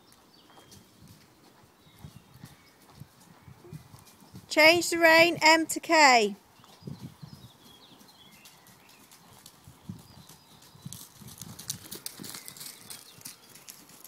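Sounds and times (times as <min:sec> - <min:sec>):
pony hooves thudding softly: 0:00.0 - 0:05.5, 0:06.6 - 0:14.0.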